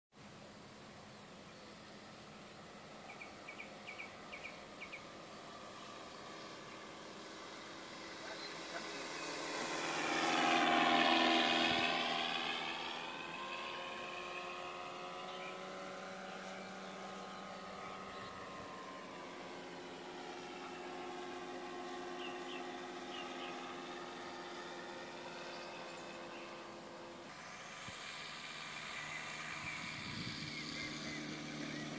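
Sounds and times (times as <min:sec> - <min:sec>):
recorded biplane engine sound: 0:00.2 - 0:31.9
model plane propeller: 0:00.4 - 0:31.9.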